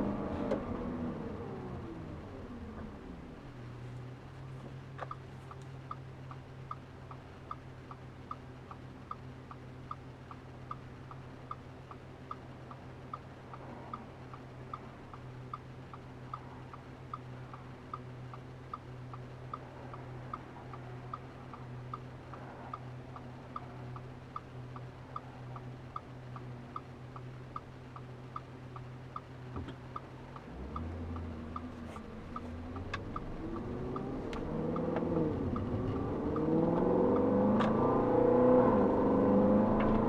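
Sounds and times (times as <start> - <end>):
car engine idling: 0.0 - 40.0
indicator relay ticking: 5.0 - 39.6.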